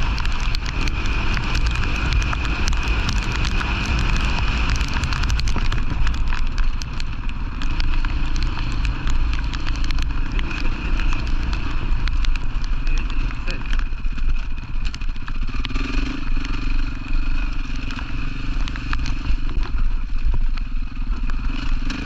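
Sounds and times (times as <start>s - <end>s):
crackles: 0.0s - 22.0s
wind rumbling on microphone: 0.0s - 22.0s.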